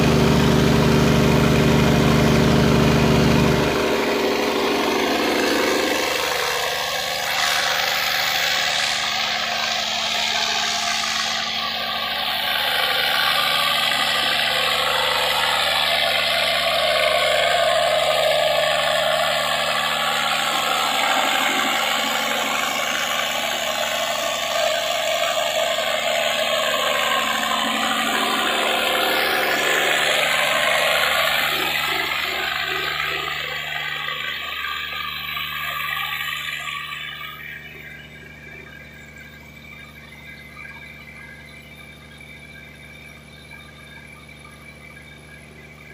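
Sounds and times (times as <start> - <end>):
diesel generator running: 0.0 - 45.9.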